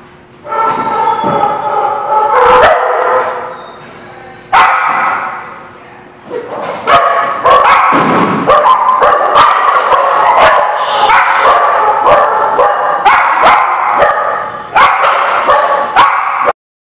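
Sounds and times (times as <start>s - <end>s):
dogs barking and yipping: 0.5s - 3.9s, 4.5s - 5.5s, 6.3s - 16.6s.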